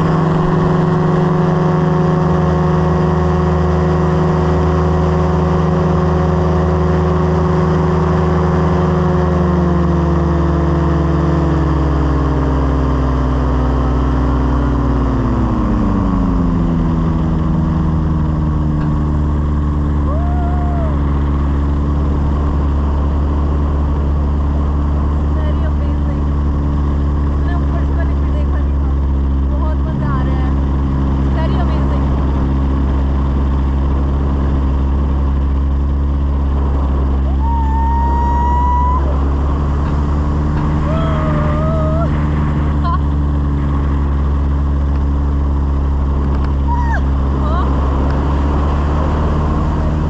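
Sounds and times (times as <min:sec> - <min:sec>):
small aircraft engine and propeller: 0:00.0 - 0:50.0.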